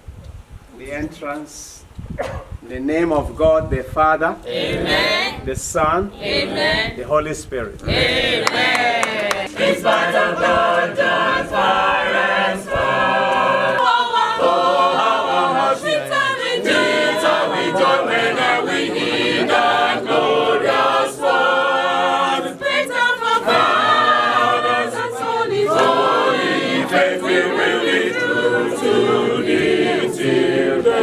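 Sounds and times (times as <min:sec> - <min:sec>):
crowd singing a hymn: 0:04.4 - 0:05.4, 0:06.1 - 0:07.0, 0:07.8 - 0:31.0.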